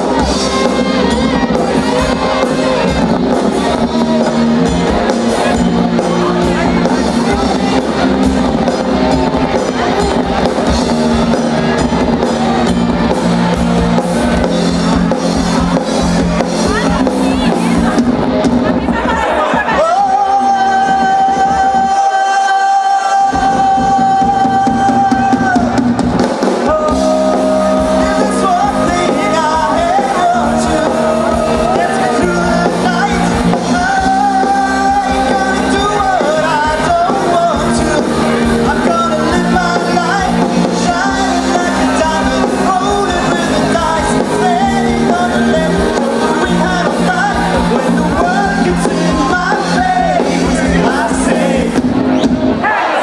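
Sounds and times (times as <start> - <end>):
man singing: 0.0 - 13.2, 19.5 - 51.8
electric guitars: 0.0 - 52.6
bass: 0.0 - 52.7
drums: 0.0 - 53.0
keyboard: 0.0 - 53.0.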